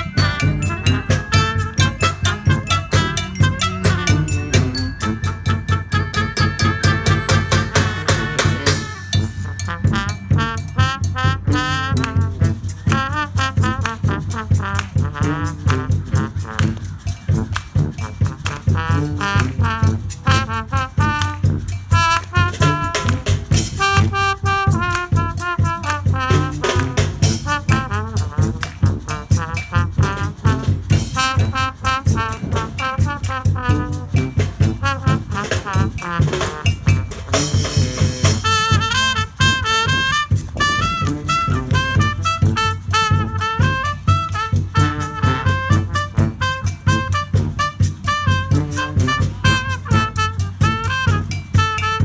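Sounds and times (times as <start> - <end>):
horns and saxophones melody: 0.0 - 52.0
marching drum beat: 0.0 - 52.0.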